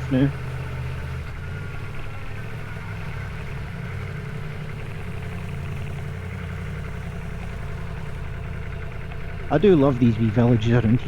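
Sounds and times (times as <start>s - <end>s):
motorcycle engine idling low: 0.0s - 11.0s.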